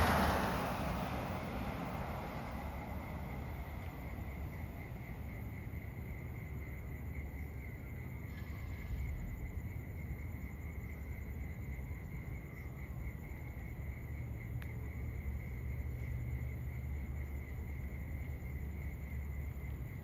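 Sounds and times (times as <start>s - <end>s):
constant low rumble: 0.0s - 20.0s
crickets trilling: 0.0s - 20.0s.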